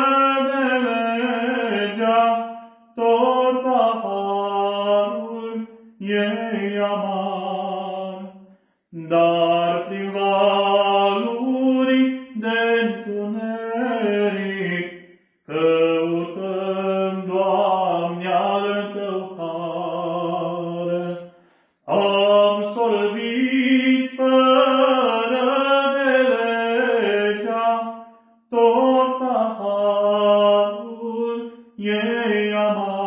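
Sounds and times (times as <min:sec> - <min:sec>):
man singing unaccompanied: 0:00.0 - 0:33.0.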